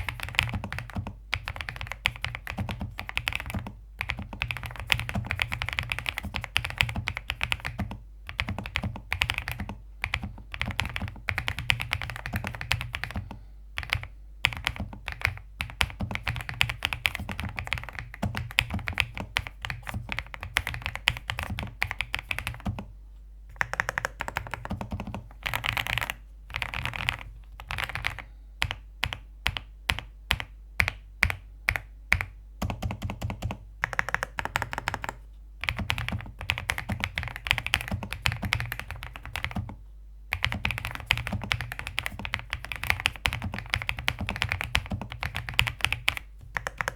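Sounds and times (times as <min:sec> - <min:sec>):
mechanical keyboard typing: 0:00.0 - 0:22.9, 0:23.5 - 0:46.9.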